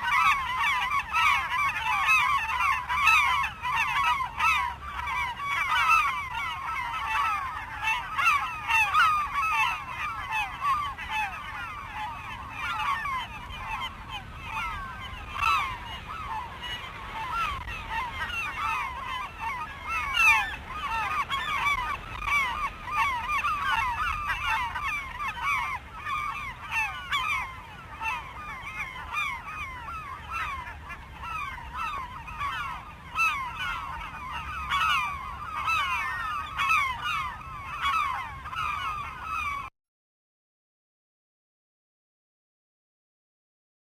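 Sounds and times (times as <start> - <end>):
flock of birds honking: 0.0 - 39.7.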